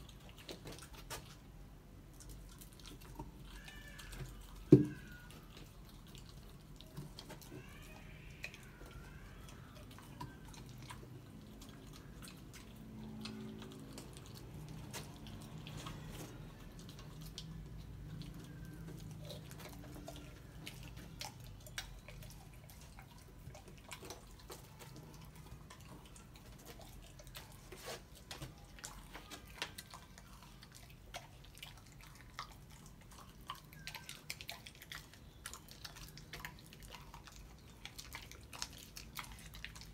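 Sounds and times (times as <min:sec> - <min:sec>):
puppy gnawing bones: 0:00.0 - 0:39.9.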